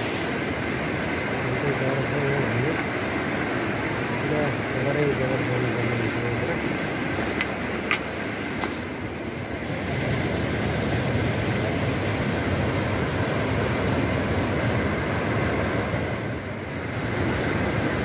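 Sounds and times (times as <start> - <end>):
river rushing over rapids: 0.0 - 18.0.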